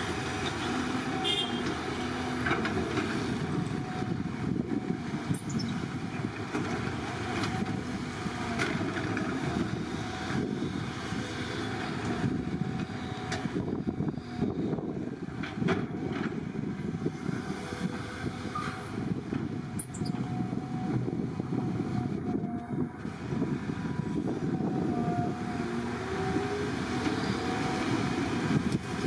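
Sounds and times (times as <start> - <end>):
heavy diesel machinery rumbling: 0.0 - 29.0.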